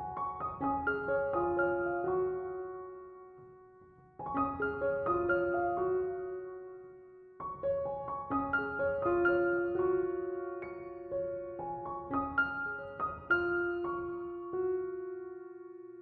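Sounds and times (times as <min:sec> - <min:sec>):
soft slow keyboard music: 0:00.0 - 0:16.0.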